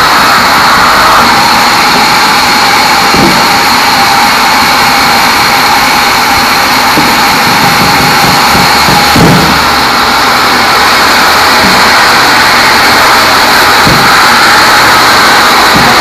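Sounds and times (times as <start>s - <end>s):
bandsaw sawing wood: 0.0s - 16.0s.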